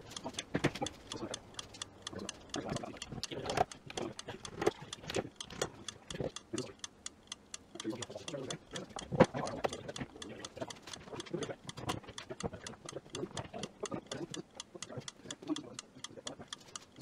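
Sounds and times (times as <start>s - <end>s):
rapid clock-like ticking: 0.0s - 17.0s.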